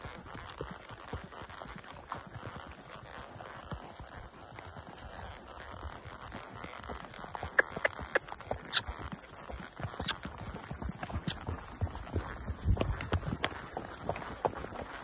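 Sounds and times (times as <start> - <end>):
horse hooves clopping on dirt: 0.0 - 15.0.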